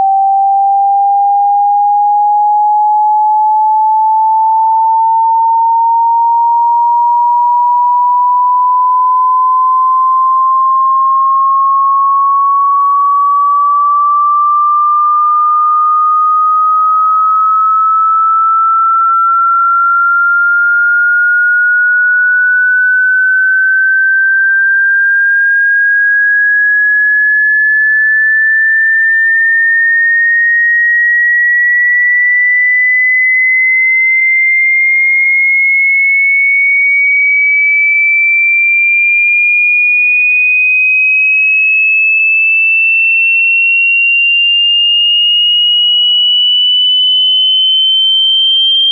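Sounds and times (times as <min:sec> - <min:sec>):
rising sine-wave test tone: 0:00.0 - 0:48.9.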